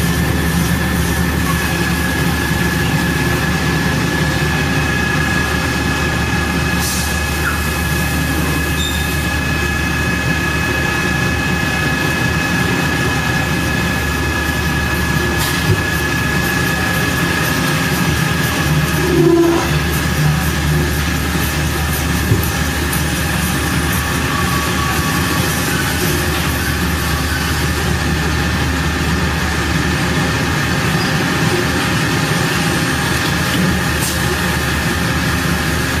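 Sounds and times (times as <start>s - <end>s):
industrial machinery running: 0.0s - 36.0s.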